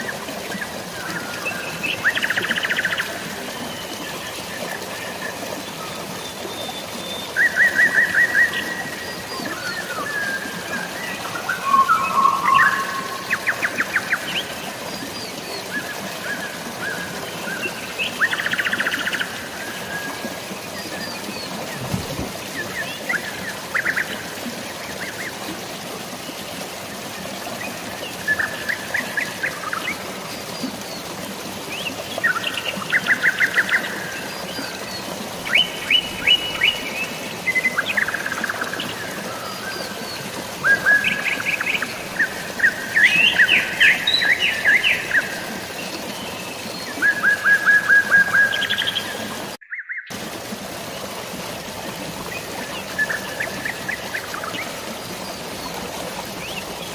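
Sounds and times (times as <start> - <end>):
rain hiss: 0.0 - 56.9
running water: 0.0 - 56.9.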